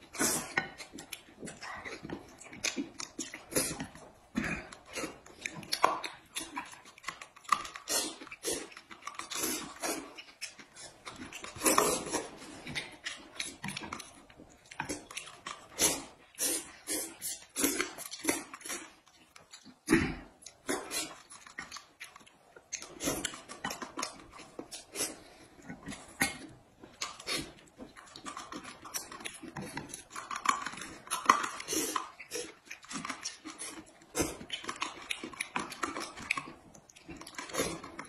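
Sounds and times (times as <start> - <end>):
chewing: 0.0 - 38.0.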